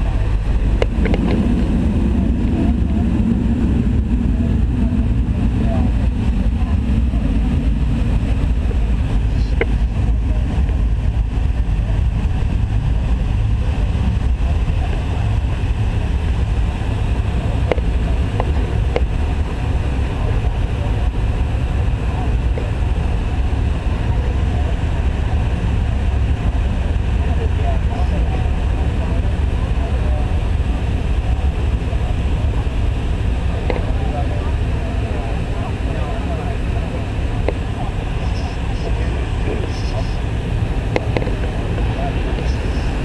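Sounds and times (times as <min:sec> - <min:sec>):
jet engine low rumble: 0:00.0 - 0:43.0.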